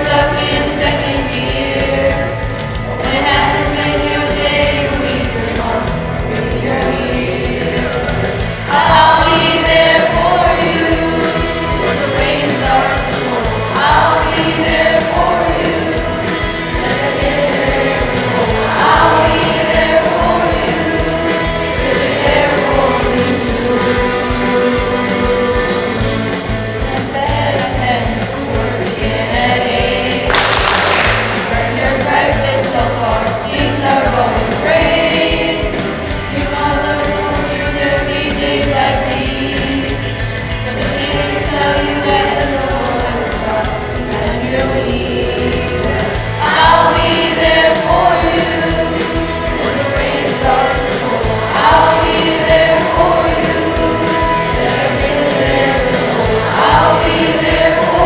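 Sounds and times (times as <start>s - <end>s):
children's choir singing: 0.0s - 58.0s
instrumental accompaniment with beat: 0.0s - 58.0s.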